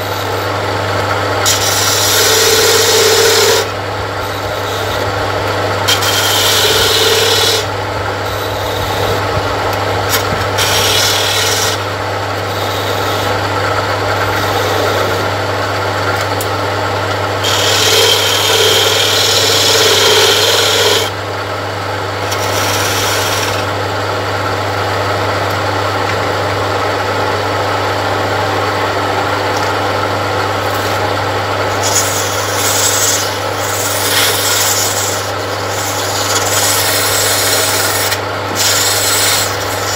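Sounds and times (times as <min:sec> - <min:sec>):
tool scraping spinning wood: 0:00.0 - 0:21.2, 0:22.1 - 0:25.0, 0:27.9 - 0:39.9
lathe motor hum: 0:00.0 - 0:39.9.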